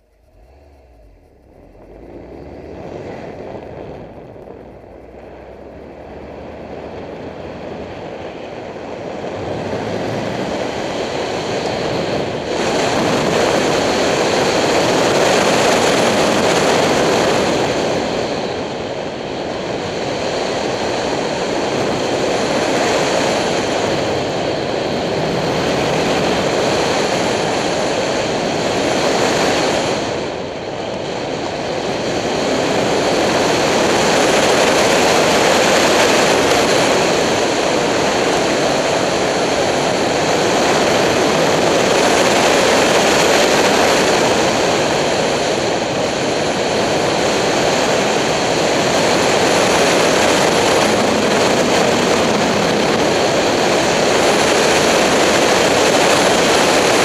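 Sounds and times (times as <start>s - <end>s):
car engine accelerating: 0.0s - 57.0s
wind and road noise: 0.0s - 57.0s.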